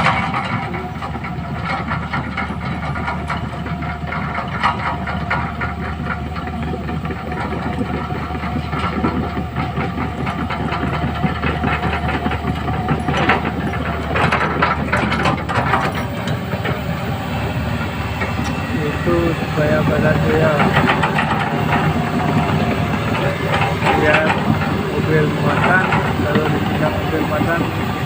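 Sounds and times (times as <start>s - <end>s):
excavator diesel engine running: 0.0s - 28.0s
machine clanks and rattles: 0.0s - 28.0s.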